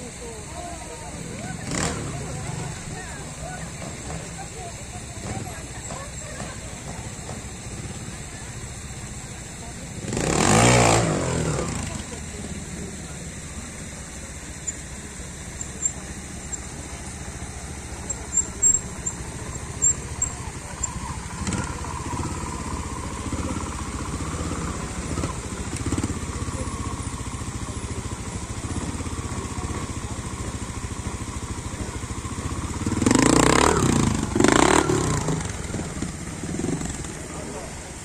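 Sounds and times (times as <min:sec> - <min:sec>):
motorcycle engine revving: 0:00.0 - 0:38.0
motorcycle engine running: 0:00.0 - 0:38.0.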